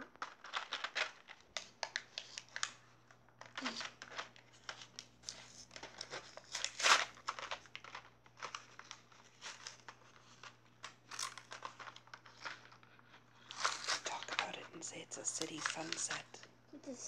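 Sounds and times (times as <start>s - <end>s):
plastic packaging crinkling and tearing: 0.0s - 16.5s.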